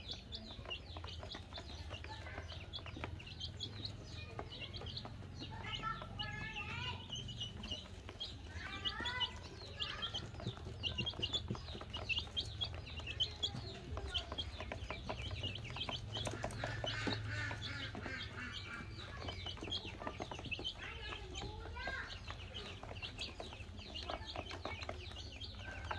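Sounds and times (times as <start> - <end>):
chicks peeping: 0.0 - 25.9
beaks tapping on plastic: 0.1 - 25.9.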